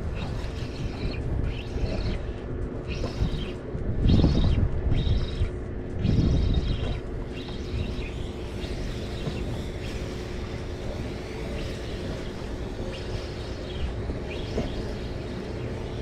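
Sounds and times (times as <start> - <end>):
ship machinery hum: 0.0 - 16.0.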